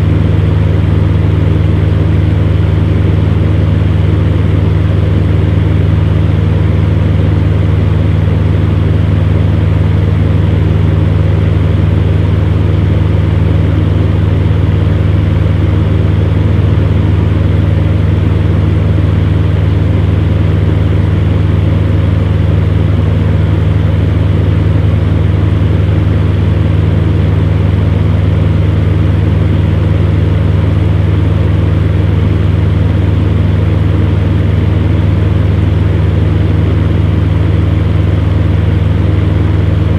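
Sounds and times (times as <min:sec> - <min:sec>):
fan heater running: 0:00.0 - 0:39.9.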